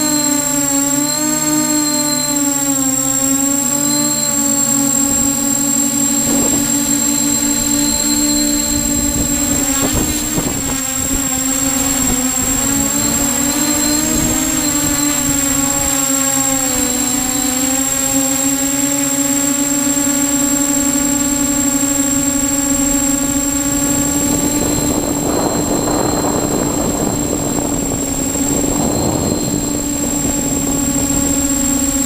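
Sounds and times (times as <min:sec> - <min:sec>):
multirotor drone motors whining: 0:00.0 - 0:32.0.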